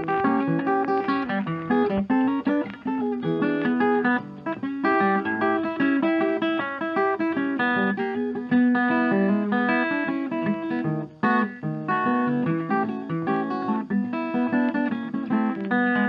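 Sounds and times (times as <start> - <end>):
guitar plucking quick notes: 0.0 - 16.0.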